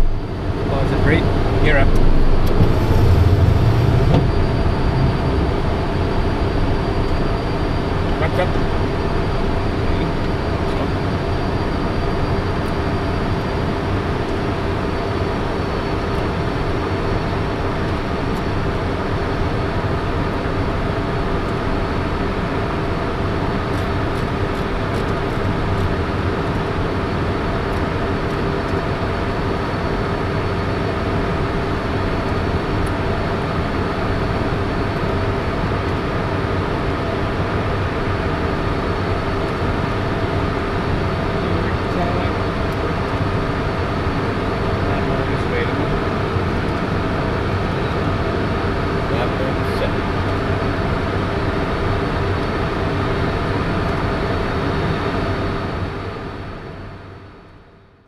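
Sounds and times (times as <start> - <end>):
steady whining tones: 0.0 - 57.4
jet engines and airflow: 0.0 - 57.8.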